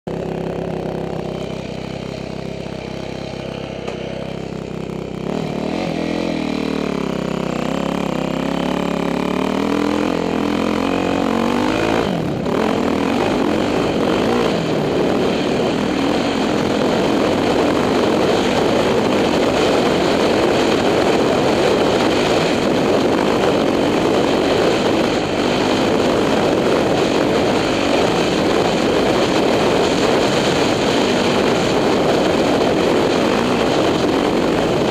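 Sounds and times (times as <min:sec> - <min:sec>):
dirt bike engine running: 0:00.1 - 0:34.9.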